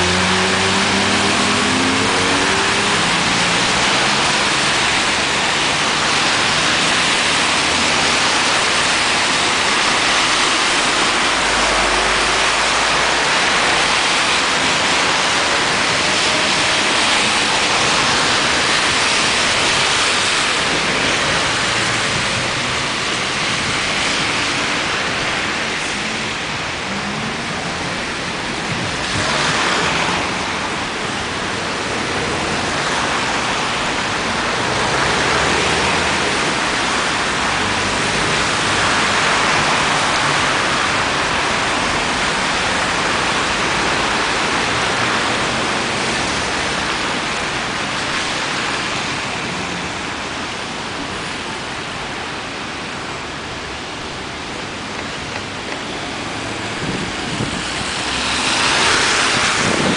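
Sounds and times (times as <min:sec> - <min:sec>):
tyres hissing on wet road: 0:00.0 - 0:59.9
vehicle engines: 0:00.0 - 0:59.9.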